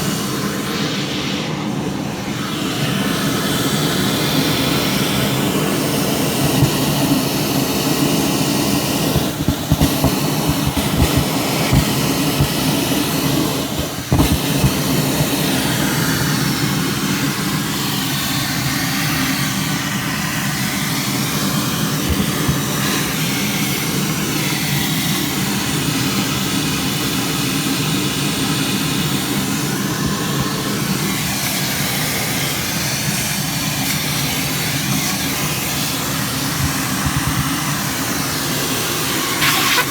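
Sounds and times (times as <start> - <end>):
fan running with whoosh: 0.0 - 39.9.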